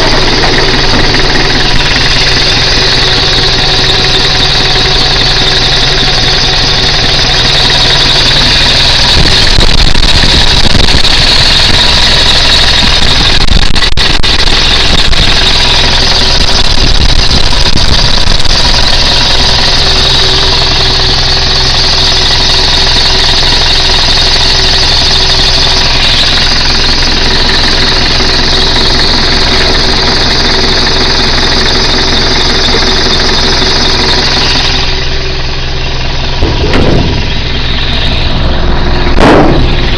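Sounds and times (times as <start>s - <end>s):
pickup engine running: 0.0s - 39.9s.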